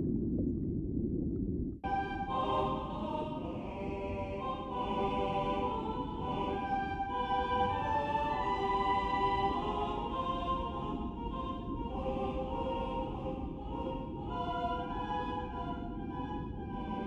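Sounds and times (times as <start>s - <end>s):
low rumble: 0.0s - 17.0s
choir-like voices holding chords: 1.9s - 17.0s.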